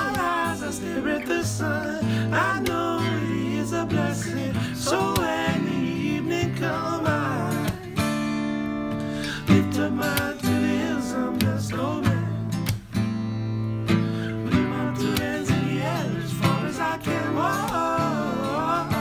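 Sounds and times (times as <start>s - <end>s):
man singing: 0.0s - 8.0s, 9.4s - 12.5s, 14.4s - 19.0s
acoustic guitar strumming: 0.0s - 19.0s.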